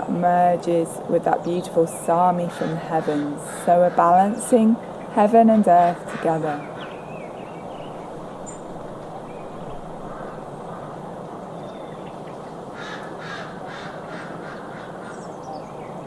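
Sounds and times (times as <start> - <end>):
outdoor background hiss: 0.0 - 16.0
bird harsh calls: 2.5 - 16.0.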